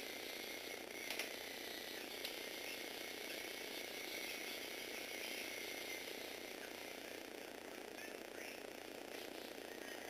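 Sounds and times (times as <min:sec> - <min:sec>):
toy electric motors whirring: 0:00.0 - 0:08.2.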